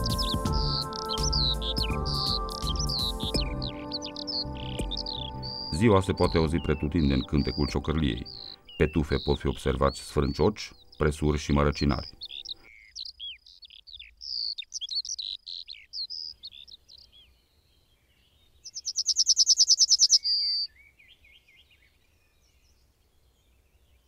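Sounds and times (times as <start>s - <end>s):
songbird chirping and warbling: 0.0s - 24.0s
yellowhammer singing: 0.0s - 24.0s.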